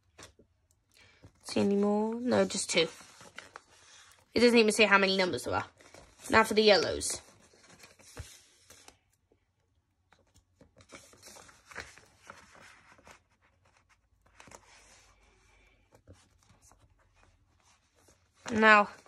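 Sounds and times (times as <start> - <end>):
paper sticker sheet rustling: 1.5 - 9.2, 10.1 - 19.0.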